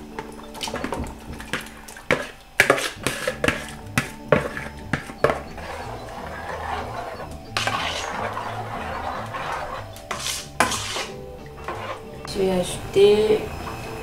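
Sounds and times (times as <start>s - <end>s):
metal spoon stirring in pot: 0.2s - 12.3s
fork scraping plastic tub: 0.6s - 12.2s.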